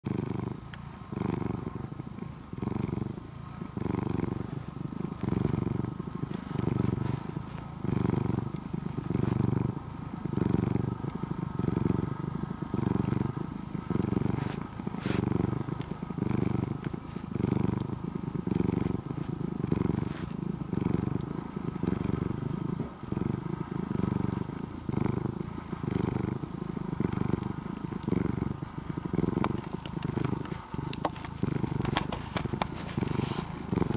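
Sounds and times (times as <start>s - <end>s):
cat purring loudly: 0.0s - 33.9s.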